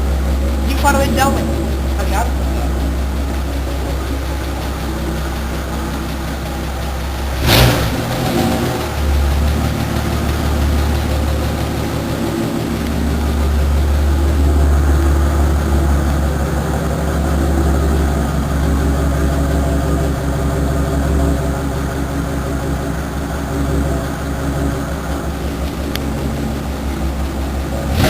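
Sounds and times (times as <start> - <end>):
engine deep rumble: 0.0 - 28.0.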